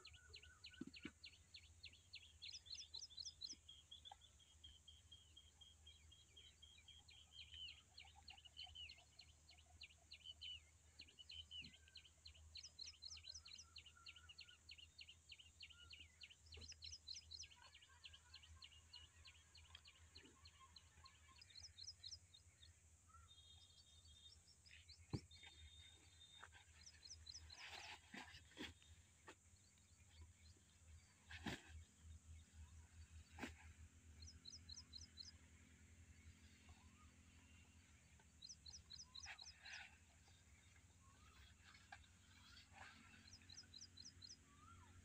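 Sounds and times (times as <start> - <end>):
small birds chirping trills: 0.0 - 45.0.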